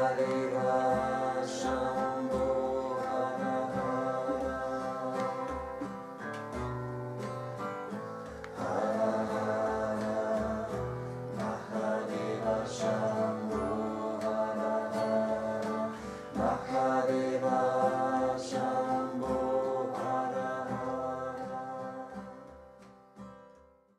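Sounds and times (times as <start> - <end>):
voices singing held notes: 0.0 - 6.6, 7.8 - 22.7
strummed acoustic guitar: 0.0 - 23.9.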